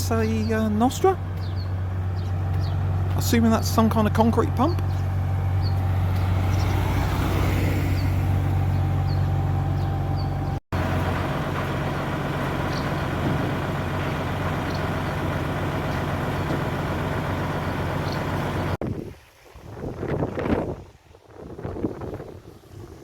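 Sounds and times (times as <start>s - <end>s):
diesel engine droning: 0.0s - 18.8s.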